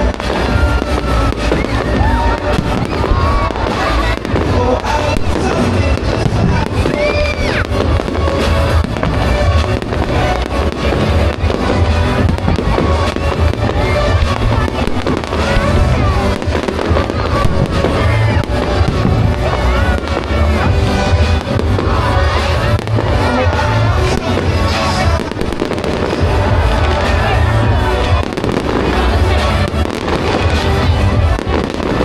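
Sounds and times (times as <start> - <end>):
fireworks bangs and crackles: 0.0 - 32.0
fireworks whistles: 0.0 - 32.0
low rumble: 0.0 - 32.0
music playing: 0.0 - 32.0.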